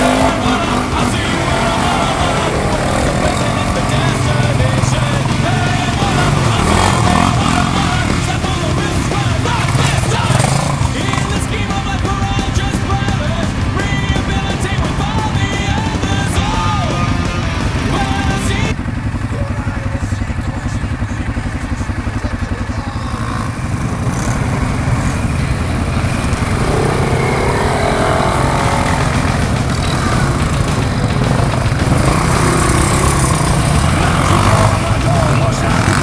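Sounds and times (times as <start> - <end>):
quad bike engine running: 0.0 - 36.0
quad bike engines revving: 0.0 - 36.0.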